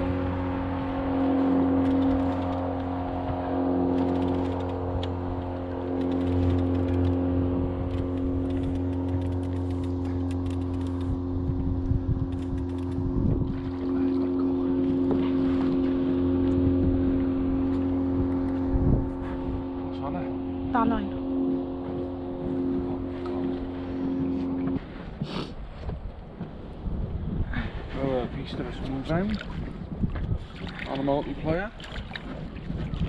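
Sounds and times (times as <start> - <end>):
outboard motor idling: 0.0 - 26.9.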